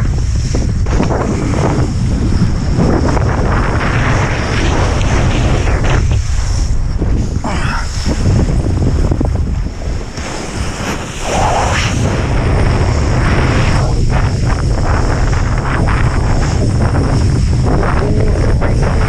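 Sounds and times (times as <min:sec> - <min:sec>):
water and slush rushing under board: 0:00.0 - 0:19.0
wind buffeting microphone: 0:00.0 - 0:19.0.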